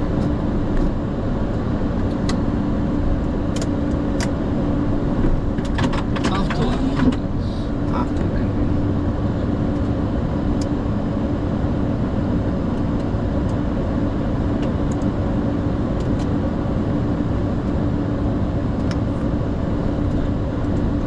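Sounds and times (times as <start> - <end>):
cockpit airflow hum: 0.0 - 21.0
jet engines idling: 0.0 - 21.0.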